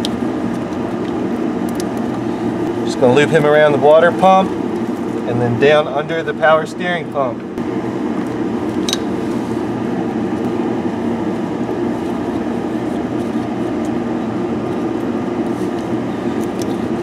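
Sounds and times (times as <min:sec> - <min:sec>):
steady mechanical drone: 0:00.0 - 0:17.0.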